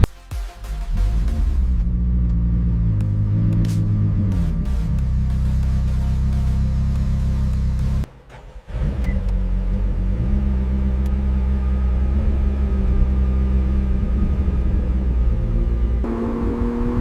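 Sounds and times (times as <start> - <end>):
car engine rumbling: 0.8 - 17.0.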